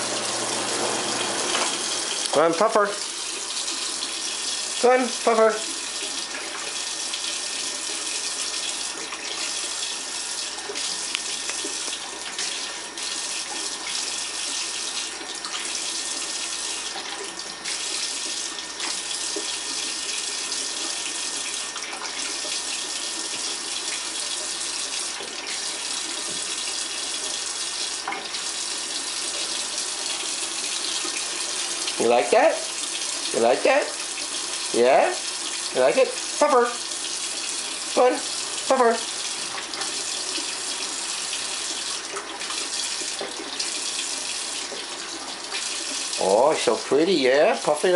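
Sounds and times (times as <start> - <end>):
faucet running into metal sink: 0.0 - 47.9.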